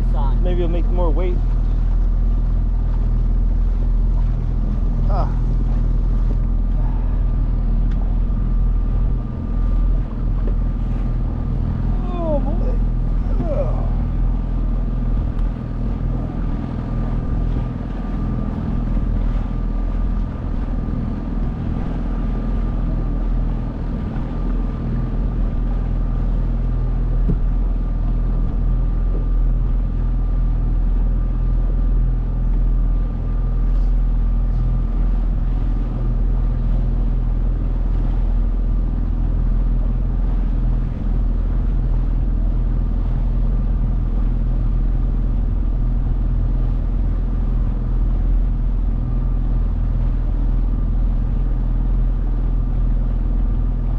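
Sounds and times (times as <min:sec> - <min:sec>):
outboard motor running: 0:00.0 - 0:53.9.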